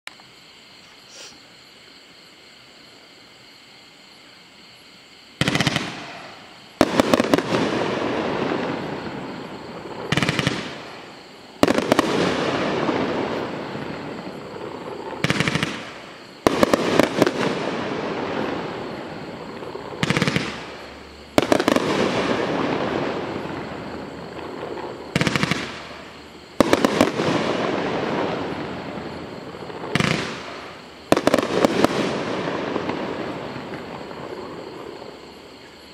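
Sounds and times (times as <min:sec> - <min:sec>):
firework shots: 0:05.4 - 0:35.0
firework crackle: 0:05.4 - 0:35.5.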